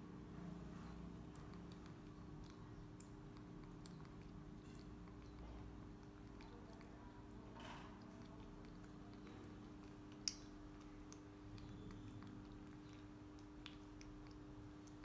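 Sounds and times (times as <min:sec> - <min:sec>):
low steady hum: 0:00.0 - 0:15.0
monkey chewing and lip smacking: 0:01.2 - 0:15.0.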